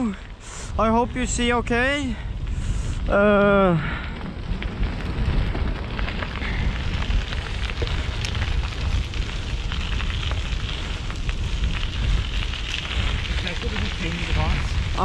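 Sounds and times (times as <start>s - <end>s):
bicycle tyres on asphalt: 0.0s - 15.0s
wind buffeting microphone: 0.0s - 15.0s.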